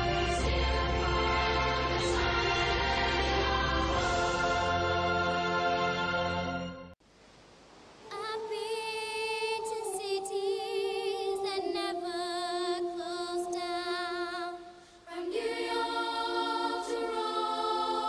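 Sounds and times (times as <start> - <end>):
choir-like voices holding notes: 0.0 - 7.0, 8.0 - 18.0.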